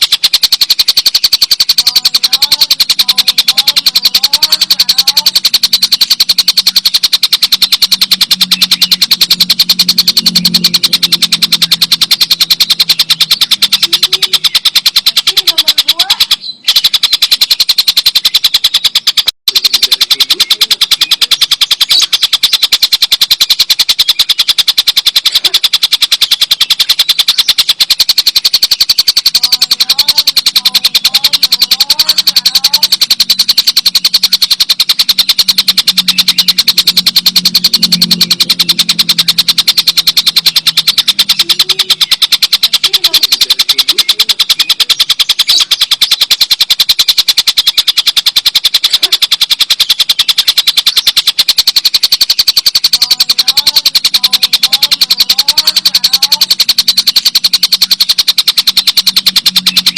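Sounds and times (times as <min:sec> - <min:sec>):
kingfisher rattling call: 0:00.0 - 0:59.9.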